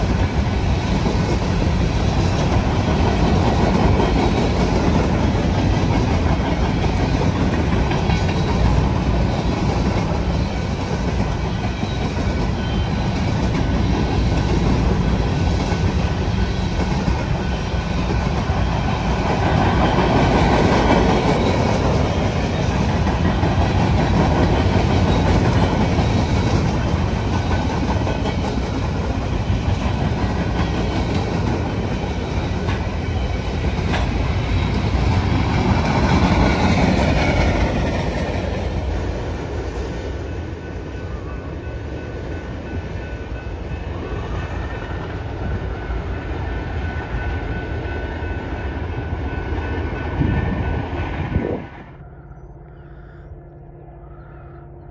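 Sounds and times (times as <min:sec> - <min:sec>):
freight train wheels rolling on rail: 0:00.0 - 0:52.4.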